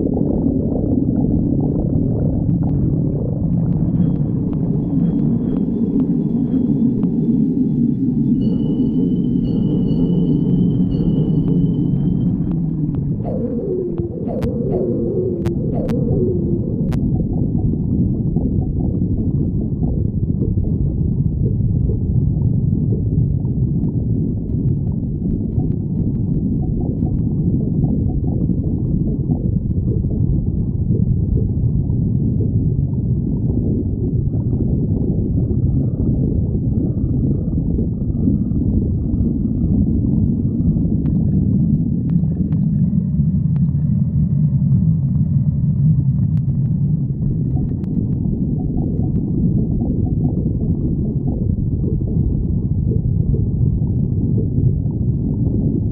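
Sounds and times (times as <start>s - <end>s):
stomach growling and gurgling: 0.0s - 55.9s.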